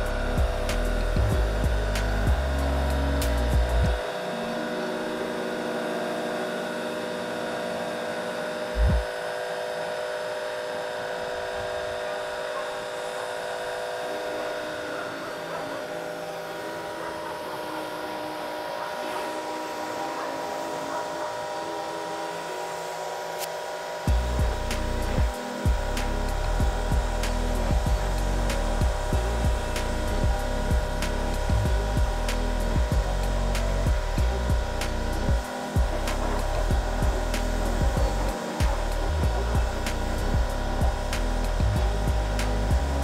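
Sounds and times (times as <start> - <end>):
pressure washer spraying: 0.0 - 43.0.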